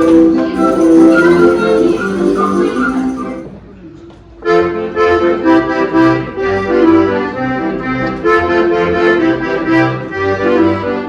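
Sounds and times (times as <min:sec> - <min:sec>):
lively accordion tune: 0:00.0 - 0:03.6, 0:04.4 - 0:11.0.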